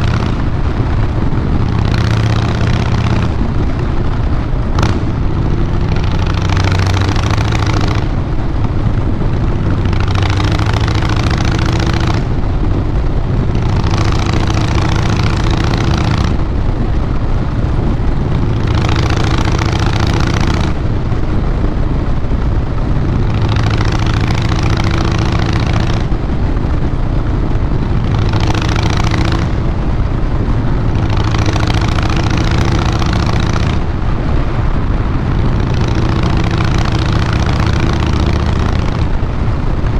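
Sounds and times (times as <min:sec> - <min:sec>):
motorcycle engine low drone: 0:00.0 - 0:39.9.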